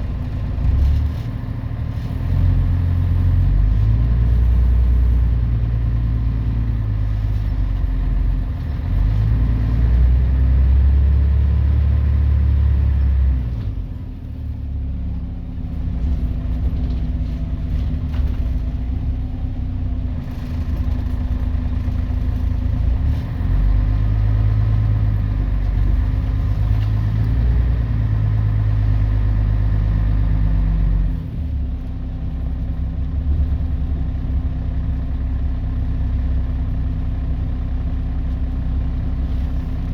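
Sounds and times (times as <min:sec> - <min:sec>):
diesel bus engine pulling: 0:00.0 - 0:39.9.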